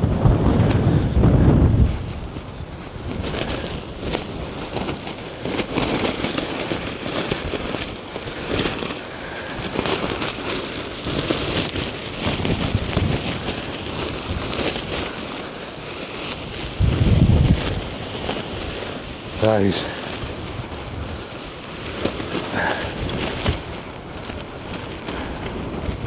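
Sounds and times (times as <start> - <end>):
tent fabric flapping: 0.0 - 26.0
wind buffeting microphone: 0.0 - 26.0.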